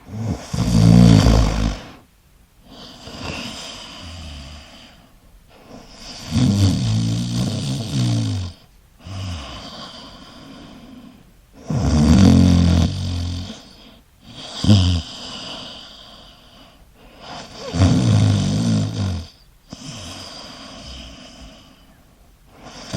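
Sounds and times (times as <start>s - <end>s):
person snoring: 0.0s - 2.0s, 2.7s - 5.0s, 5.6s - 16.4s, 17.2s - 21.8s.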